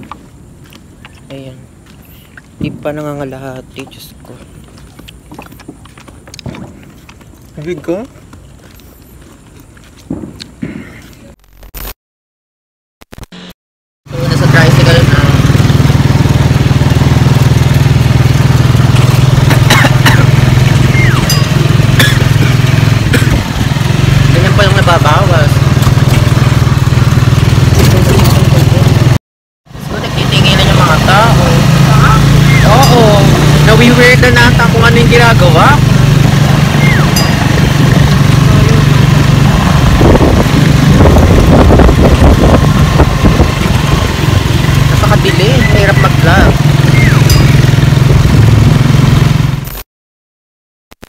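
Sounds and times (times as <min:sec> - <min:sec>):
motorcycle engine running: 0:00.0 - 0:10.4, 0:14.1 - 0:49.8.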